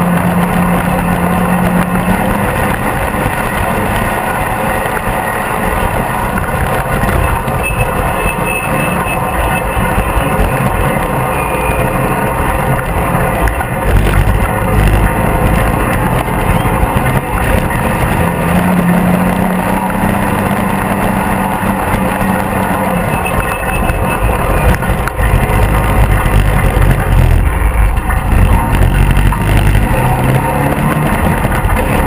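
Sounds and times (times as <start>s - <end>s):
engine droning: 0.0s - 32.0s.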